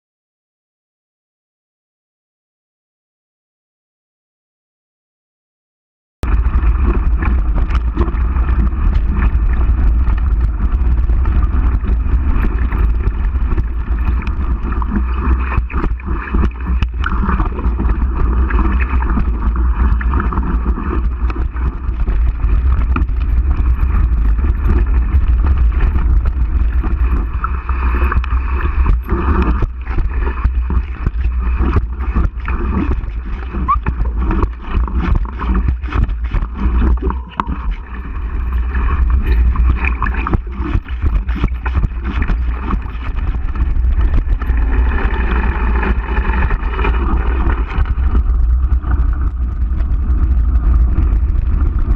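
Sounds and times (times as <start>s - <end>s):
wind rumble on microphone: 6.2s - 51.9s.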